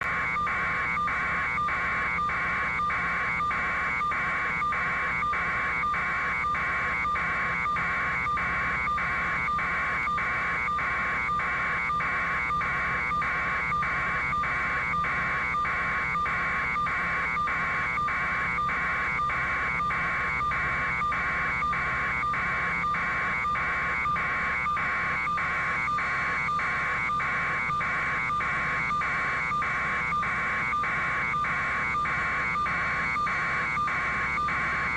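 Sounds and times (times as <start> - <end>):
electronic alarm buzzing pulses: 0.0 - 34.9.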